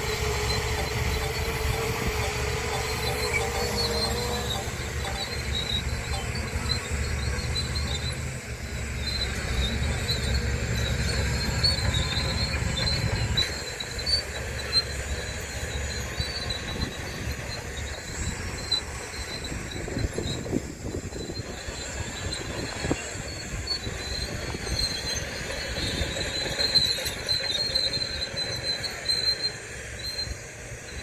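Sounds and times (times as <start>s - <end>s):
bulldozer diesel engine: 0.0s - 31.0s
steel tracks squealing: 0.0s - 31.0s.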